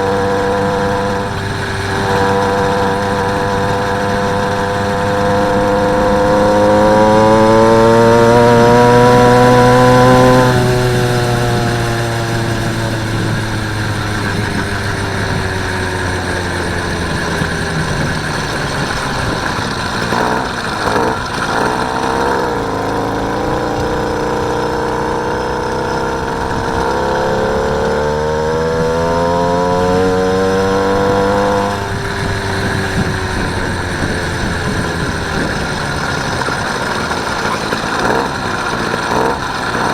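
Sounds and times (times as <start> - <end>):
small bicycle engine running: 0.0 - 39.9.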